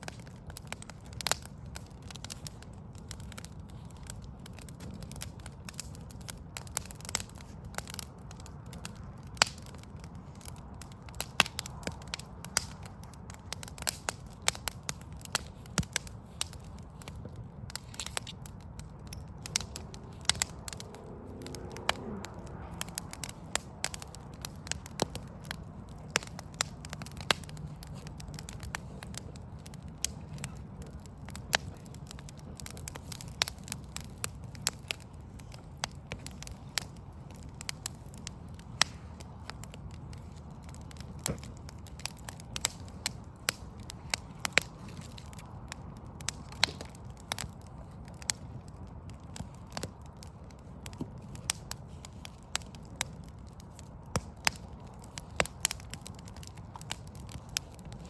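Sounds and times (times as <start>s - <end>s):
low steady rumble: 0.0s - 49.2s
wood fire crackling and popping: 0.0s - 58.0s.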